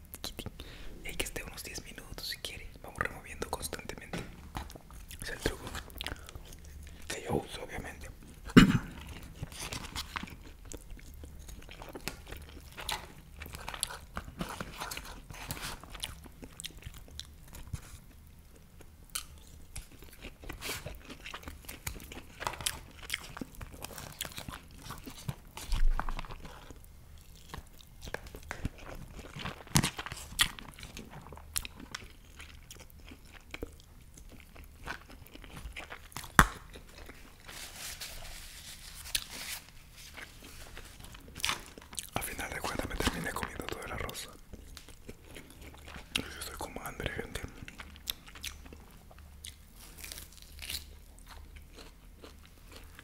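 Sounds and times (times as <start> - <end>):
chewing and crunching: 2.5 - 53.0.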